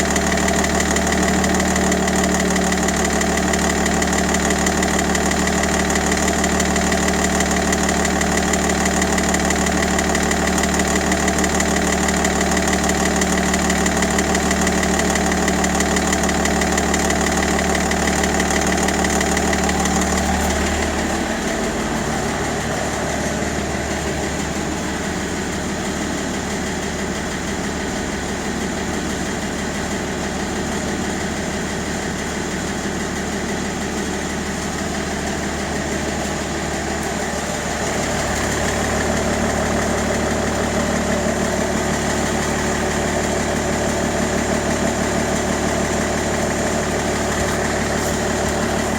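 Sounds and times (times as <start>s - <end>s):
diesel engine idling: 0.0s - 48.9s
engine knocking: 0.0s - 48.9s.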